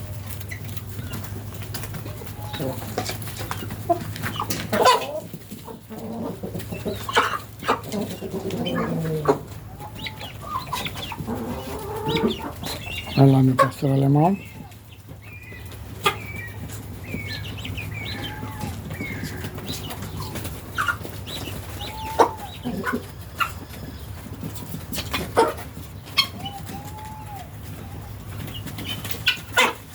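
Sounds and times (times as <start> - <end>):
chickens and guinea fowl clucking: 0.0 - 29.9.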